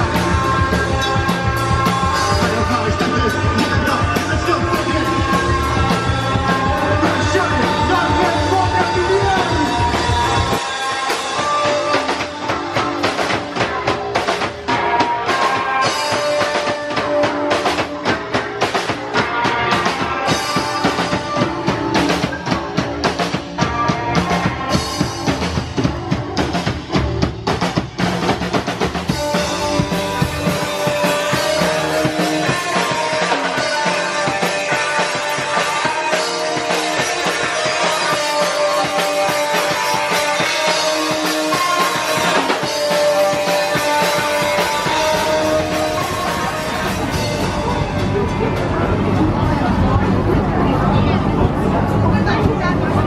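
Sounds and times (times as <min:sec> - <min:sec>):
punk band playing live: 0:00.0 - 0:53.0.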